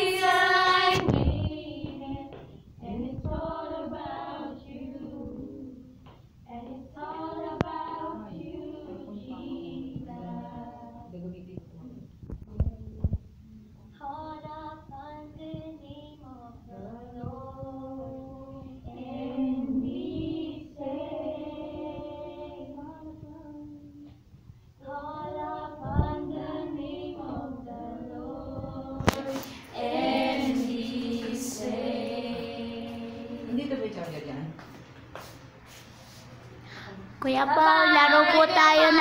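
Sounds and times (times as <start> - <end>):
women singing worship song: 0.0 - 11.4, 13.9 - 24.2, 24.8 - 34.4, 35.7 - 39.0.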